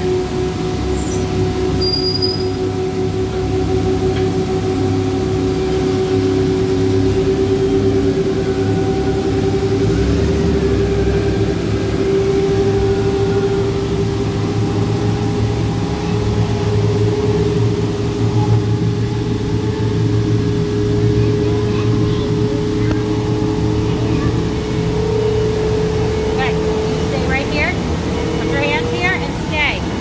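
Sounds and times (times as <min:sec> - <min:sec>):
blower humming: 0:00.0 - 0:30.0.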